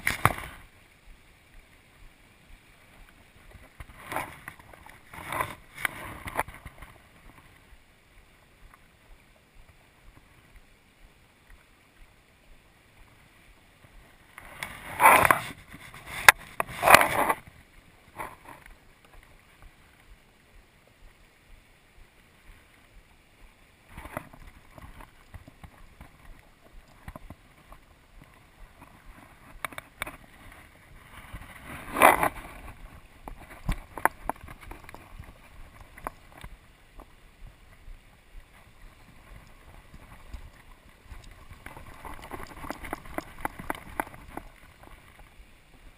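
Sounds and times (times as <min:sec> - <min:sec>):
river current flowing: 0:00.0 - 0:45.9.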